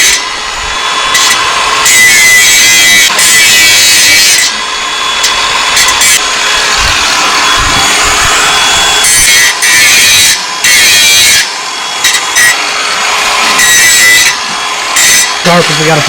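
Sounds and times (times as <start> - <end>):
power tool grinding metal: 0.0 - 16.0.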